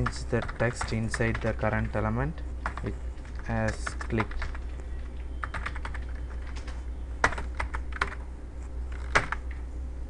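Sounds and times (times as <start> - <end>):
computer keyboard typing: 0.0 - 2.0, 2.6 - 8.3, 8.9 - 9.6
steady low hum: 0.0 - 10.0.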